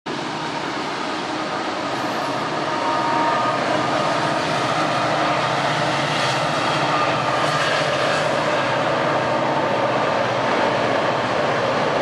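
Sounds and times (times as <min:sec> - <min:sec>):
freight train rumbling on bridge: 0:00.1 - 0:12.0.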